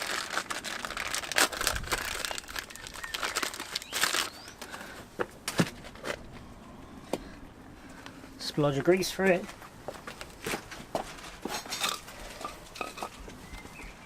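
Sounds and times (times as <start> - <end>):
crinkling and rustling: 0.0 - 7.3, 8.7 - 13.9.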